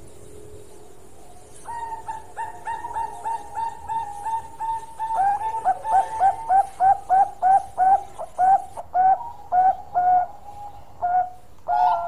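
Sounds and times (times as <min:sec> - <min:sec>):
dove cooing: 0:01.6 - 0:12.0.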